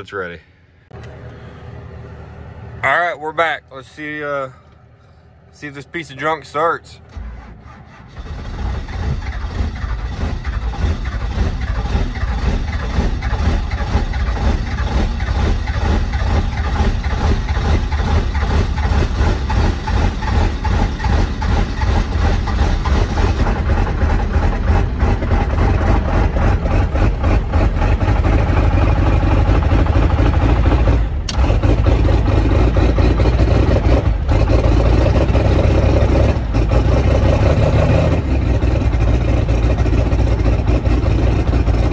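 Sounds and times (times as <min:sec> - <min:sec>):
diesel engine running roughly: 0:06.0 - 0:41.9.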